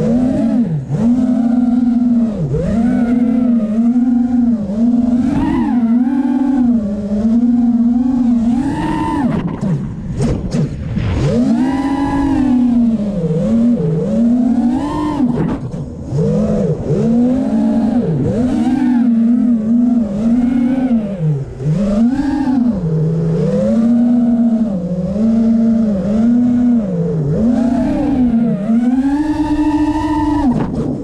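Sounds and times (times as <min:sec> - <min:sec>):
quadcopter propellers whining: 0:00.0 - 0:31.0.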